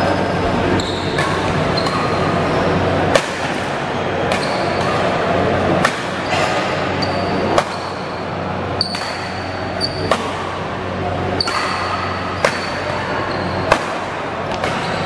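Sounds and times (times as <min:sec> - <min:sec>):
shoes squeaking on court floor: 0:00.0 - 0:02.9, 0:04.2 - 0:05.4, 0:06.1 - 0:10.3, 0:10.9 - 0:15.0
low hum and murmur: 0:00.0 - 0:15.0
rackets striking shuttlecock: 0:01.0 - 0:02.4, 0:03.0 - 0:10.7, 0:11.4 - 0:15.0.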